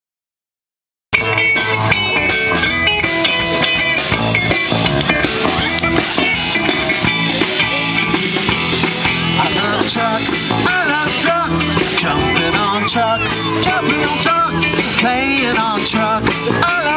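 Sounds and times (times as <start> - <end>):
live rock band playing: 1.1 - 16.9.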